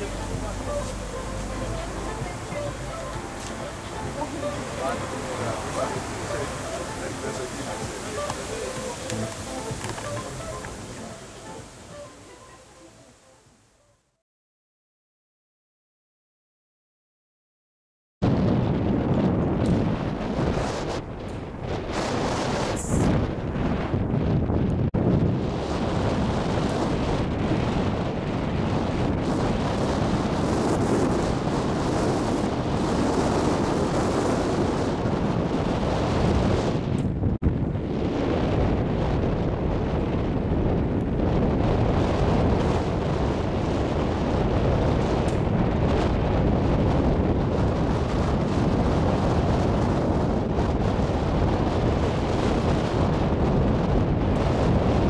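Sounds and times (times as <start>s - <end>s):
wind buffeting microphone: 0.0s - 13.0s, 18.2s - 55.0s.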